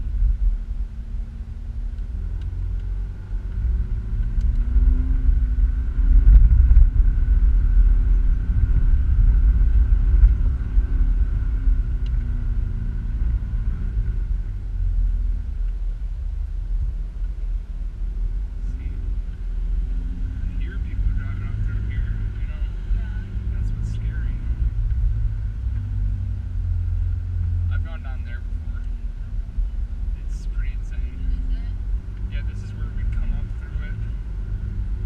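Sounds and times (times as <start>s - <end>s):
car engine rumbling in sand: 0.0s - 35.0s.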